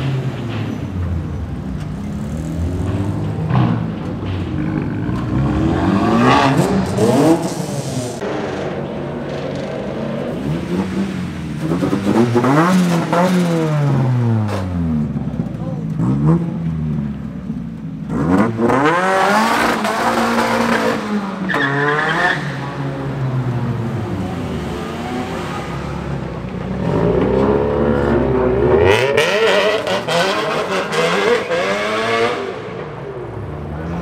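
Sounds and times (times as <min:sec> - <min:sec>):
car engines revving in tunnel: 0:00.0 - 0:34.0.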